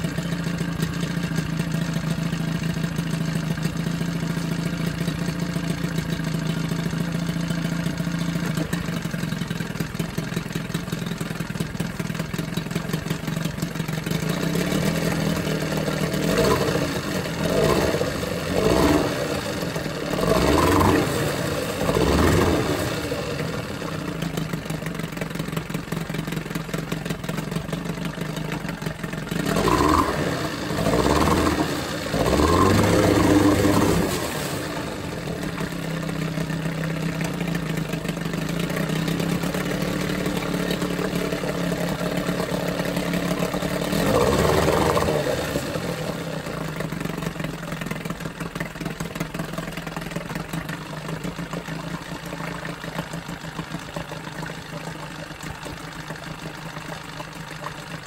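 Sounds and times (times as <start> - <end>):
outboard motor idling and revving: 0.0 - 58.0.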